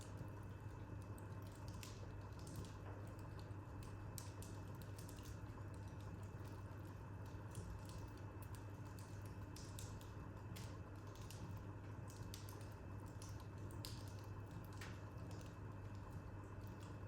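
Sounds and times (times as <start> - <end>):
low steady hum: 0.0 - 17.0
wood fire crackling: 0.1 - 17.0.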